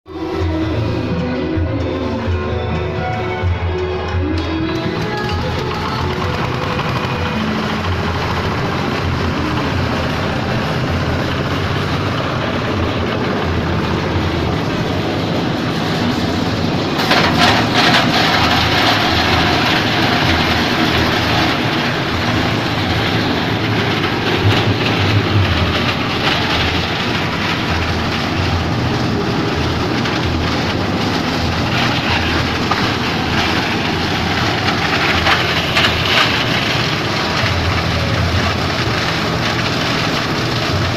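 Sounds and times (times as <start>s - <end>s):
dense crackling: 4.2s - 40.9s
plastic shredder motor drone: 4.8s - 40.9s.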